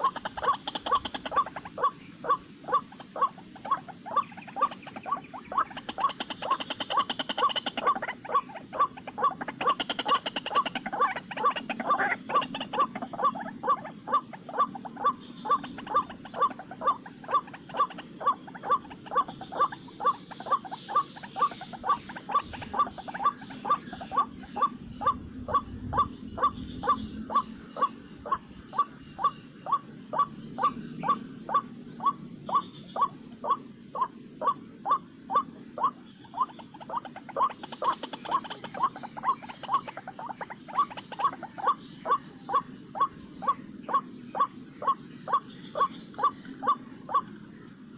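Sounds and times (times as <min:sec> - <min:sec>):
waterhen calling: 0:00.0 - 0:47.4.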